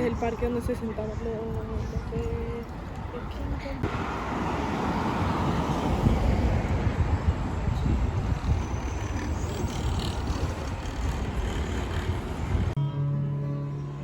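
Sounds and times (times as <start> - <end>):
road traffic rumble: 0.0 - 12.8.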